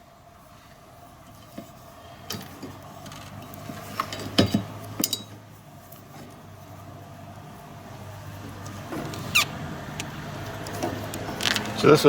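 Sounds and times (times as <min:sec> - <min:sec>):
faint steady hum: 0:00.0 - 0:11.8.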